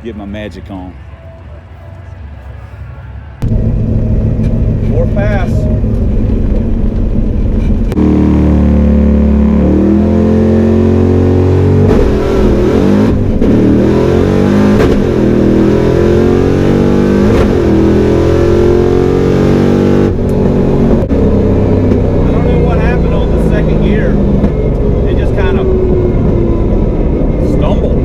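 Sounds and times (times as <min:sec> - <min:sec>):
engine accelerating through gears: 0:03.4 - 0:28.0.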